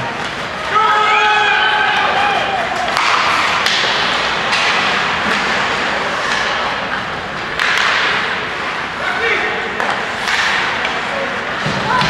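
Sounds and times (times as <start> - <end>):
arena noise: 0.0 - 12.0.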